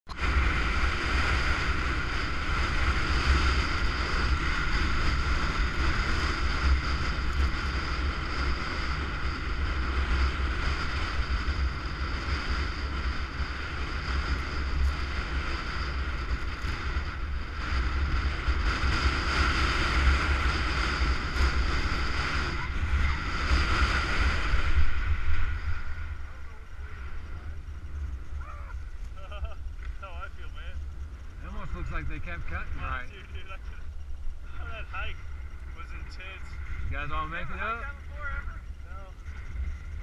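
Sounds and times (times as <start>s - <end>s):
wind buffeting microphone: 0.1s - 40.0s.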